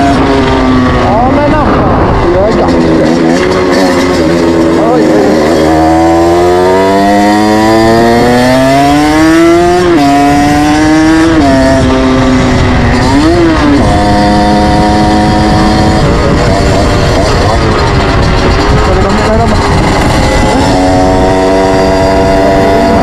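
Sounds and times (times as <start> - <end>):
moped engine running: 0.0 - 23.0.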